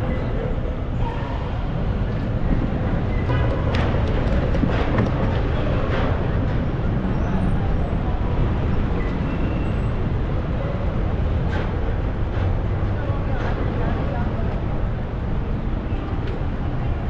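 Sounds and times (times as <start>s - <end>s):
low rumble of vehicle noise: 0.0s - 17.0s.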